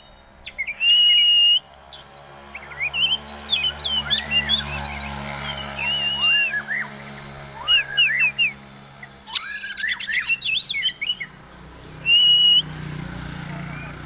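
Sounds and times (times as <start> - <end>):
bird singing whistled notes: 0.0 - 11.4, 12.0 - 12.8.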